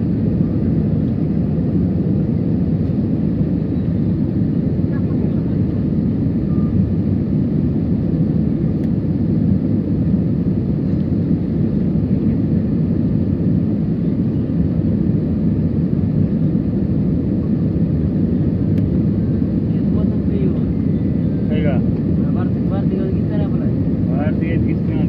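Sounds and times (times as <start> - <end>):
airliner engine rumble in cabin: 0.0 - 25.0.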